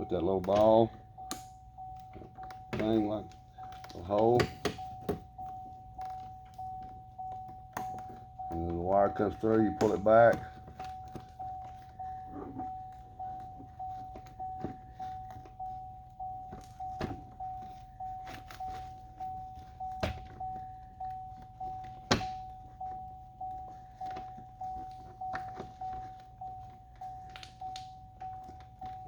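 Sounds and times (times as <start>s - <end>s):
truck warning chime dinging: 0.0s - 29.0s.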